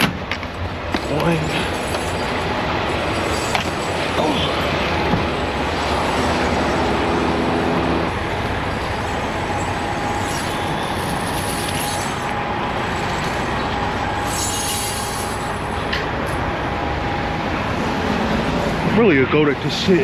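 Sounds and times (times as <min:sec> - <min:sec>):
large vehicle running: 0:00.0 - 0:20.0
low hum: 0:00.0 - 0:20.0.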